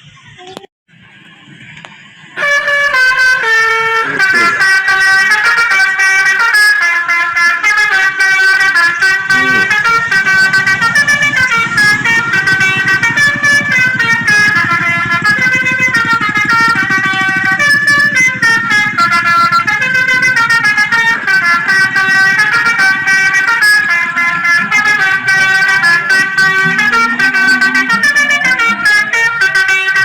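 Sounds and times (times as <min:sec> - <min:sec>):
musical horn tune: 0:02.4 - 0:30.0.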